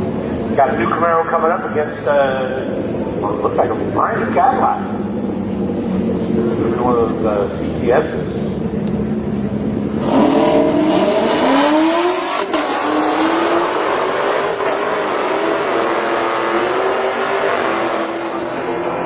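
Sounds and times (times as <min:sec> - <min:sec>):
drag race car engines revving: 0:00.0 - 0:19.0.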